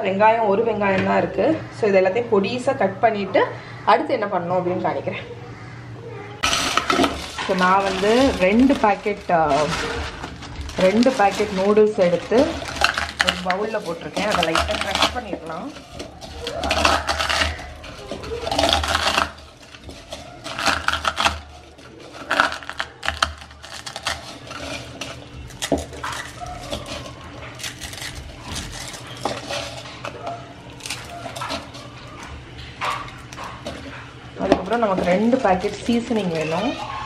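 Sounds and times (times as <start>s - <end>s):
dry noodles crunching in plastic bowl: 6.4s - 37.0s.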